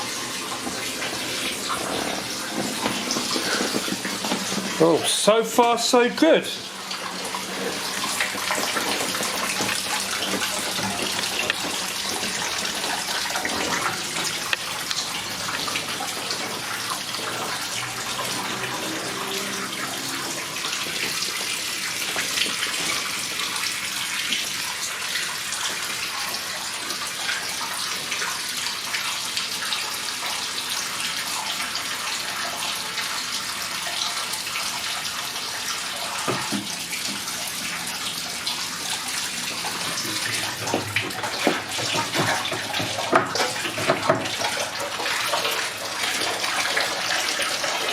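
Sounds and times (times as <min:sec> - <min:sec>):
hose water rushing into tank: 0:00.0 - 0:47.9.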